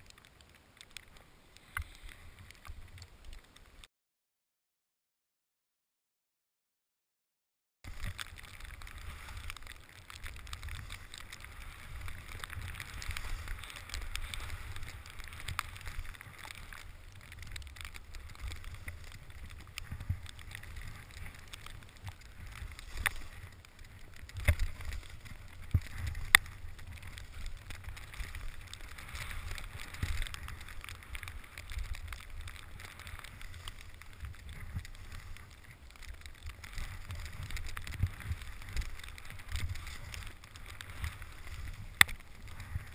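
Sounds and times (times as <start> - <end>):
hiss of riding on snow: 1.1 - 3.0, 7.9 - 42.9.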